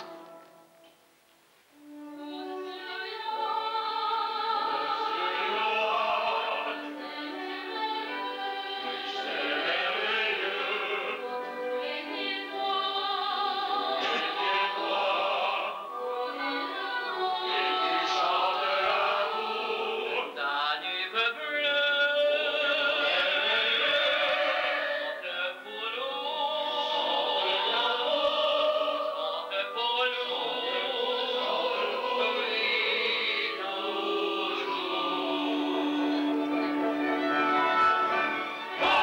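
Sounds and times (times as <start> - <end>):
musical accompaniment: 0.0 - 1.1, 1.7 - 20.4, 21.0 - 39.0
operatic singing: 1.9 - 39.0.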